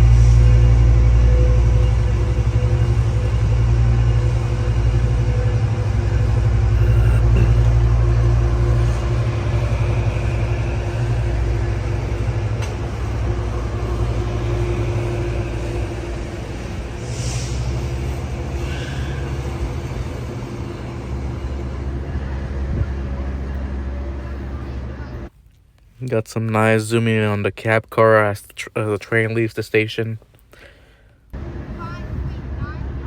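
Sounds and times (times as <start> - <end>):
diesel locomotive engine: 0.0 - 33.0.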